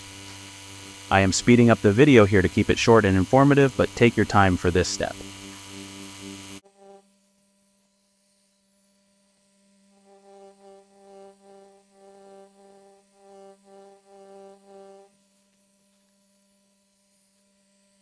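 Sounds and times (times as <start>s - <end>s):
tattoo machine buzzing: 0.0s - 18.0s.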